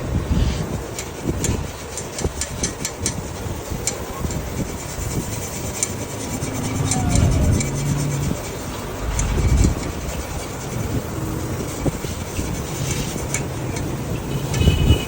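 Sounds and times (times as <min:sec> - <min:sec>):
engine and traffic rumble: 0:00.0 - 0:15.0.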